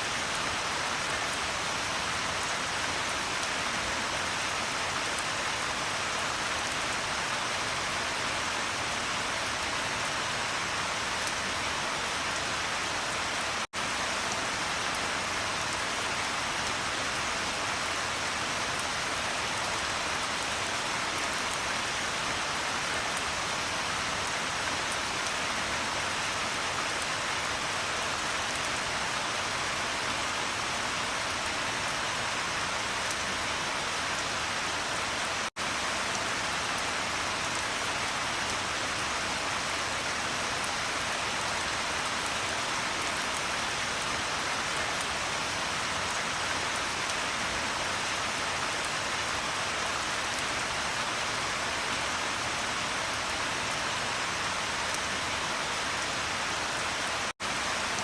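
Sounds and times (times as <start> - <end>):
dense rain pattering: 0.0 - 58.0.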